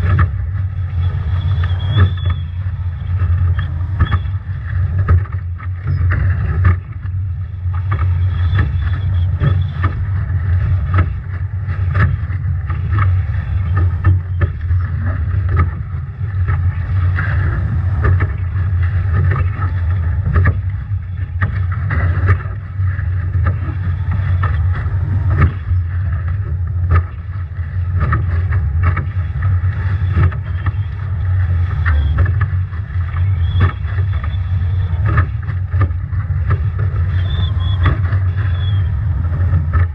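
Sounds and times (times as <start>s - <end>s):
water rushing: 0.0s - 39.9s
waves slapping: 0.0s - 39.9s.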